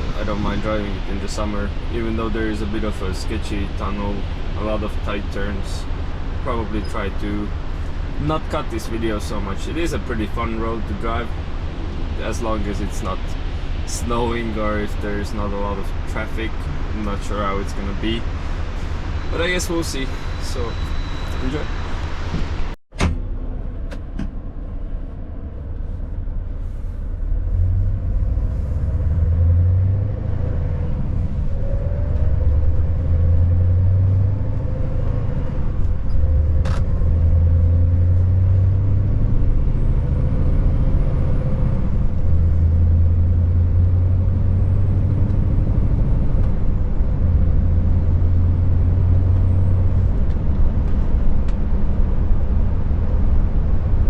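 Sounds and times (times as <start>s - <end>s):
truck diesel engine rumbling: 0.0s - 54.0s.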